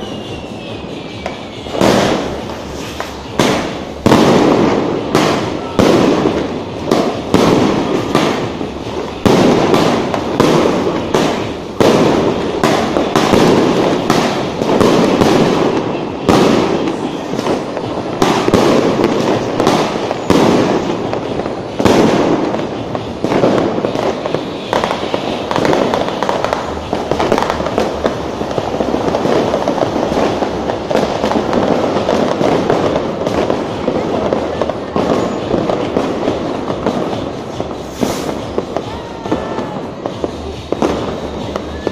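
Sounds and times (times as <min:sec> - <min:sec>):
fireworks and firecrackers banging: 0:00.0 - 0:41.9.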